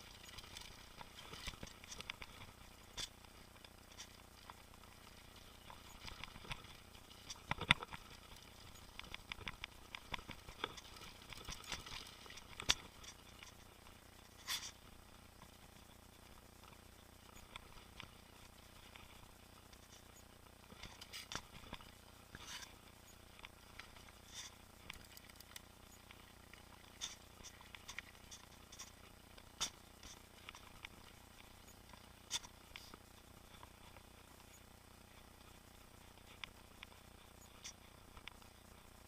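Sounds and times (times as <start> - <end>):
mountain bike rattling: 0.0 - 14.8, 16.0 - 32.9
low steady hiss: 0.0 - 39.0.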